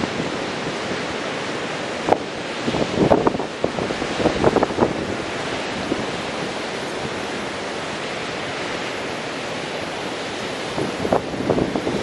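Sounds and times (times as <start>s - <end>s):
ocean waves breaking: 0.0s - 12.0s
wind buffeting microphone: 0.0s - 12.0s.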